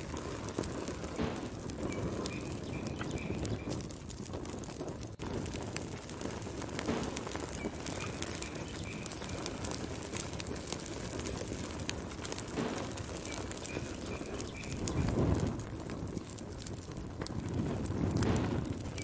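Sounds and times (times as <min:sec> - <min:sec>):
fire crackling and popping: 0:00.0 - 0:19.0
low rush of flame: 0:00.0 - 0:19.0.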